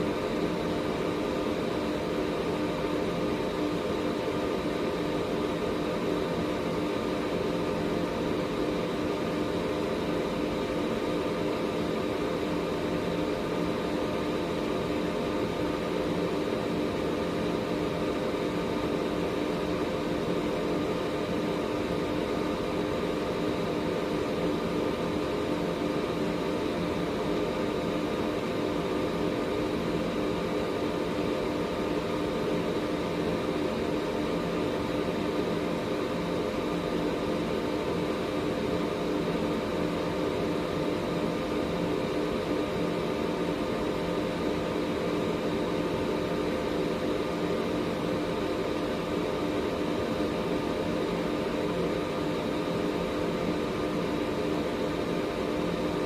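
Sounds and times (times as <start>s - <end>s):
air purifier fan rushing: 0.0s - 56.0s.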